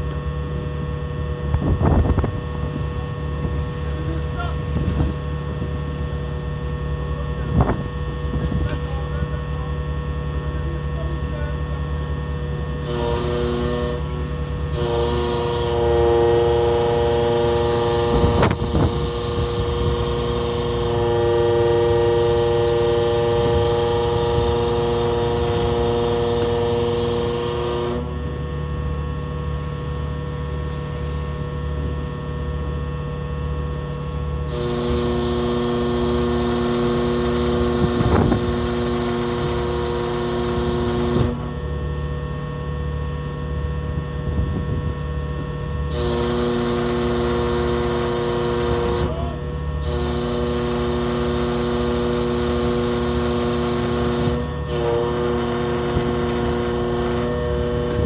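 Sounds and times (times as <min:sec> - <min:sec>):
hydraulic pump whine: 0:00.0 - 0:58.0
ship engine drone: 0:00.0 - 0:58.0.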